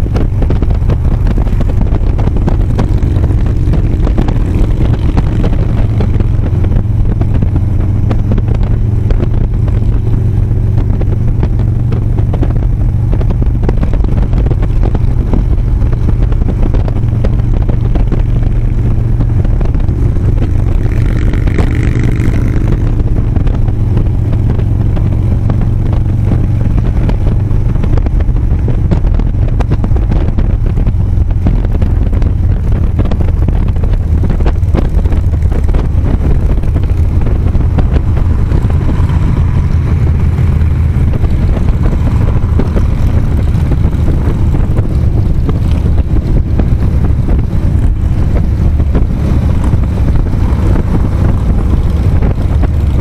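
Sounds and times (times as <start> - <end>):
motorcycle engine running: 0.0 - 53.0
wind rush on microphone: 0.0 - 53.0.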